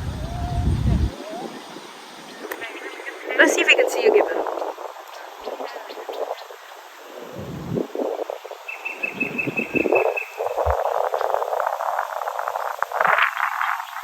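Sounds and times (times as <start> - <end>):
crackling rustle of insects and leaves: 0.0 - 14.0.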